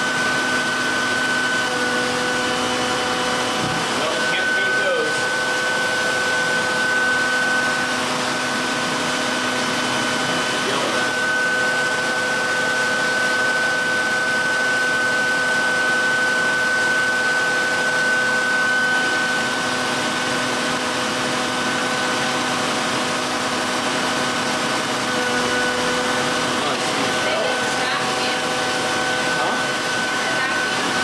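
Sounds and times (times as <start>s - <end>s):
belt sharpener motor whining: 0.0s - 31.0s.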